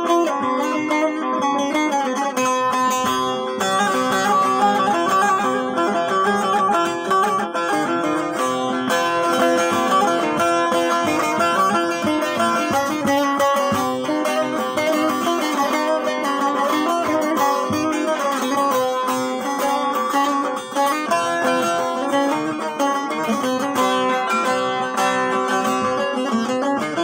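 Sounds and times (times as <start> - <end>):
plucked long-necked lute: 0.0 - 27.0.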